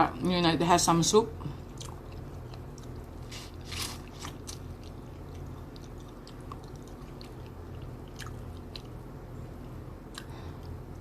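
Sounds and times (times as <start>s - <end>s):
low steady hum: 0.0s - 11.0s
person chewing food: 1.6s - 10.9s.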